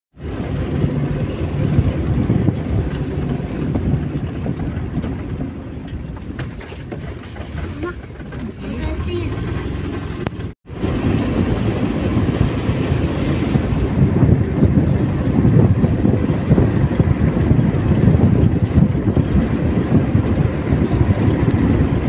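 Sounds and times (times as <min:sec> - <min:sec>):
vehicle rumble and wind noise: 0:00.1 - 0:22.0.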